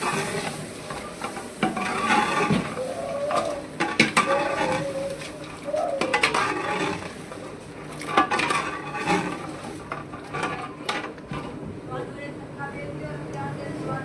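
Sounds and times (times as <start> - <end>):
metal ladle scraping a pot: 0.0 - 11.5.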